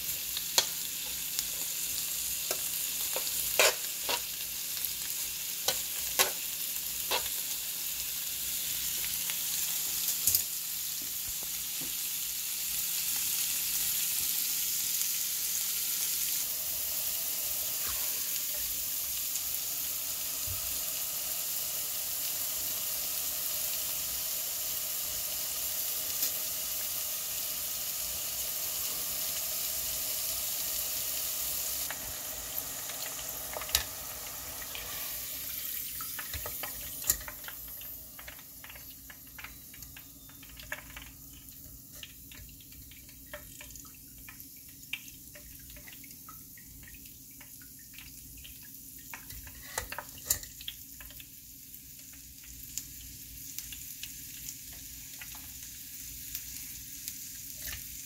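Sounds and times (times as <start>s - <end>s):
food sizzling on a griddle: 0.0s - 58.0s
fries bubbling in hot oil: 0.0s - 58.0s.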